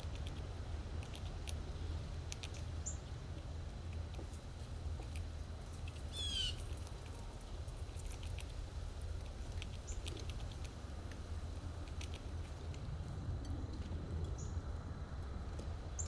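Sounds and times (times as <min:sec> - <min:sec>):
squirrels feeding clicks and taps: 0:00.0 - 0:14.6.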